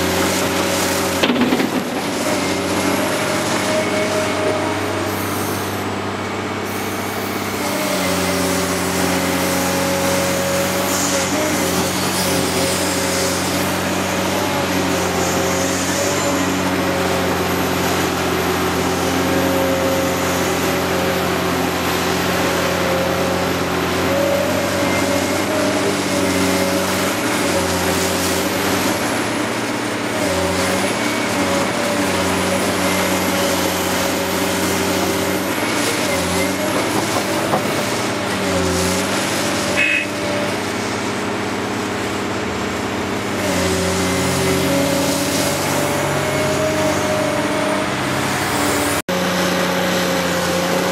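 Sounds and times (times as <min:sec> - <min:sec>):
excavator diesel engine working: 0:00.0 - 0:50.9.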